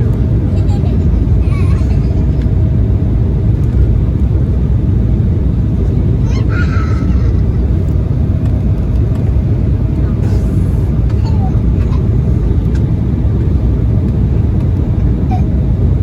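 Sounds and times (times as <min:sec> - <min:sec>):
airliner cabin rumble: 0:00.0 - 0:16.0
faint constant hum: 0:00.0 - 0:16.0.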